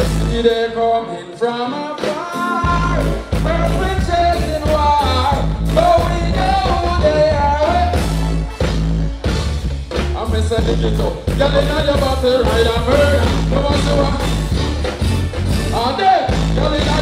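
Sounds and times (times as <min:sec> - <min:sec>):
drums: 0:00.0 - 0:01.0, 0:01.8 - 0:17.0
heavy bass: 0:00.0 - 0:01.1, 0:02.1 - 0:17.0
man singing: 0:00.0 - 0:08.2, 0:10.1 - 0:14.8, 0:15.6 - 0:17.0
guitar: 0:00.0 - 0:17.0
keyboards: 0:00.0 - 0:17.0.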